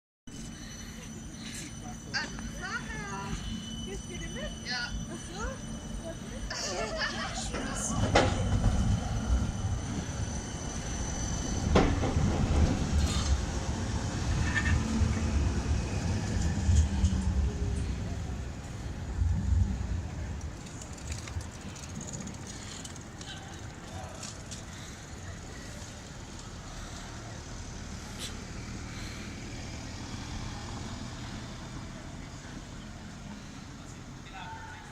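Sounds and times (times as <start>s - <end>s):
tram rumbling on track: 0.3s - 34.9s.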